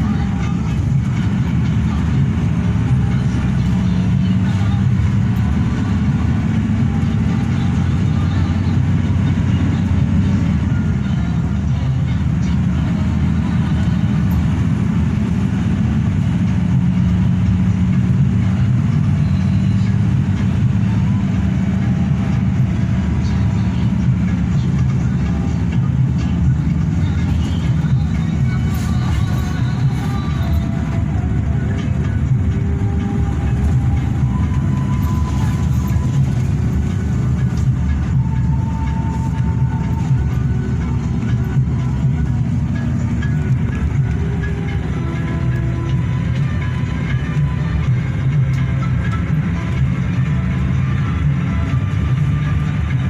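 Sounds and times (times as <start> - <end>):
bus engine drone: 0.0 - 53.0
road rumble: 0.0 - 53.0.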